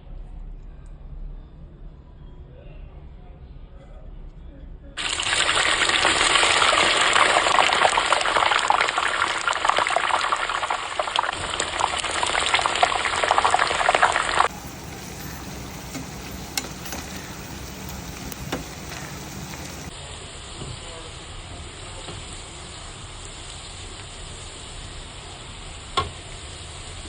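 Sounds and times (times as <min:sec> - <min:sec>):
food sizzling in hot oil: 0:05.0 - 0:27.0.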